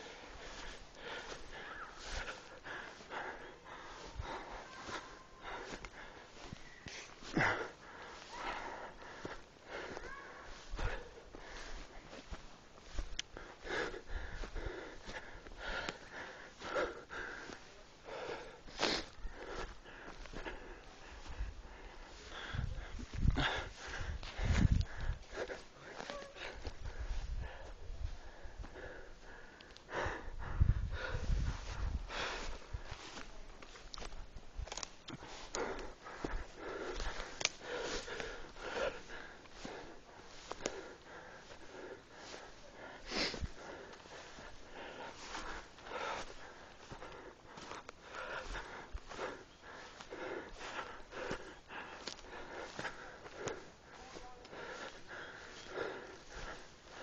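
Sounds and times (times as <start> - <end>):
dry grass rustling: 0.0 - 57.0
heavy rhythmic breathing: 0.0 - 57.0
person panting hard: 0.0 - 57.0.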